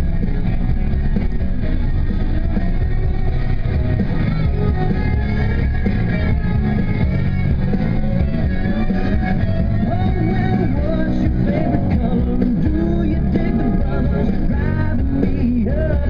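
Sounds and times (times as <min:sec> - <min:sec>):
rock music with guitar: 0:00.0 - 0:16.0.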